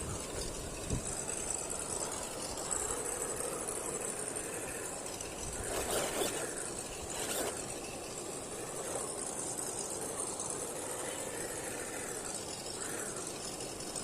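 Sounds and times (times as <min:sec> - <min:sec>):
toy car electric motor running: 0:00.0 - 0:14.0.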